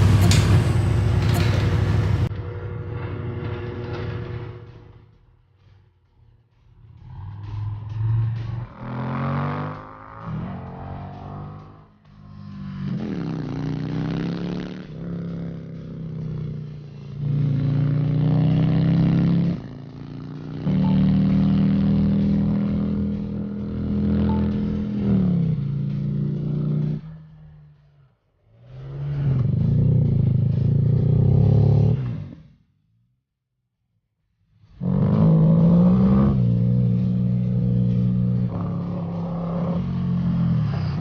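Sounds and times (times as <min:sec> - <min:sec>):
motorcycle engine revving: 0:00.0 - 0:04.9, 0:06.9 - 0:28.0, 0:28.6 - 0:32.4, 0:34.8 - 0:41.0.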